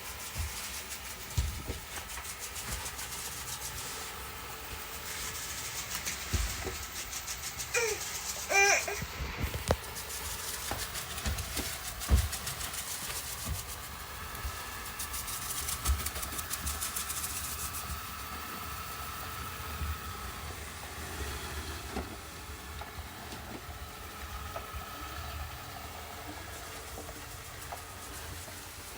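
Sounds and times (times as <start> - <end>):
robot vacuum cleaner whirring: 0.0 - 28.9.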